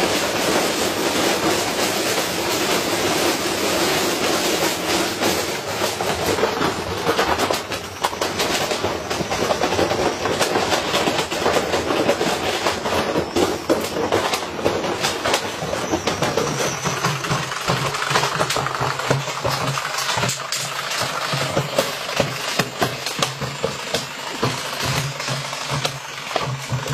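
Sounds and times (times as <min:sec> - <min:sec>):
washing machine drum banging: 0:00.0 - 0:26.9.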